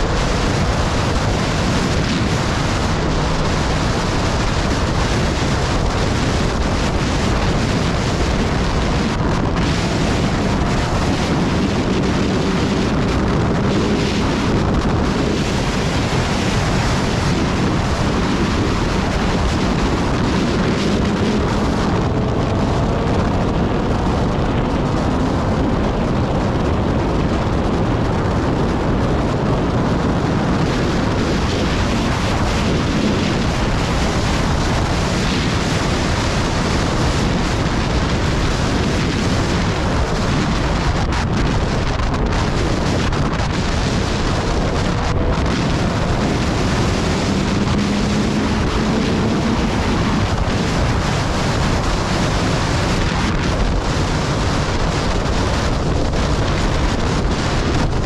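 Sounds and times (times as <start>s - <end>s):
motorcycle engine revving: 0.0s - 26.2s, 29.4s - 54.7s
wind rushing over microphone: 0.0s - 58.0s.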